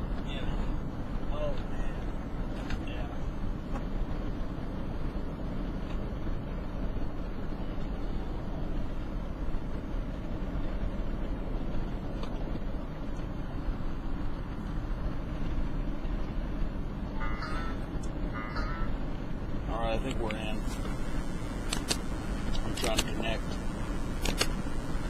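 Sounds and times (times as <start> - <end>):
truck cabin road and engine noise: 0.0 - 25.0.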